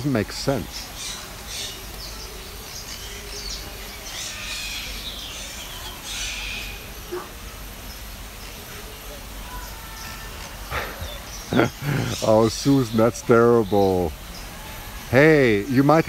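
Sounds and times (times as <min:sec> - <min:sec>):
birds chirping and calling: 0:00.0 - 0:16.0
low background hum: 0:00.0 - 0:16.0.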